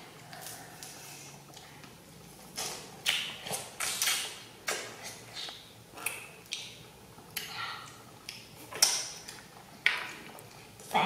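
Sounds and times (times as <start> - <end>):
child chewing juicy fruit: 0.0 - 11.0.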